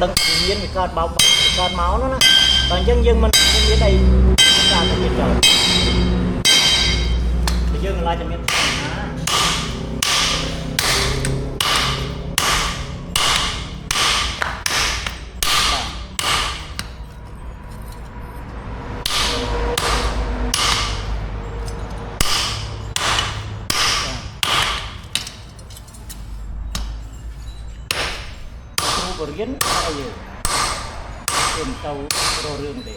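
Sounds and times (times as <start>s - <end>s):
low hum: 0.0s - 29.4s
hammer striking steel: 0.0s - 32.9s.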